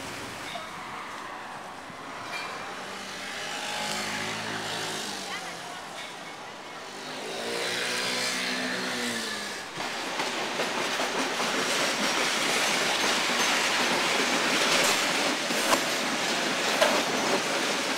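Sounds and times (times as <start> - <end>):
train wheels clattering on rails: 0.0 - 17.9.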